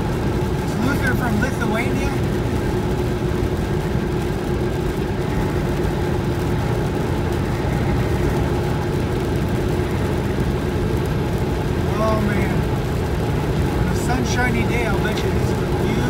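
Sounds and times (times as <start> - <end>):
tyre and road noise: 0.0 - 16.0
vehicle engine hum: 0.0 - 16.0.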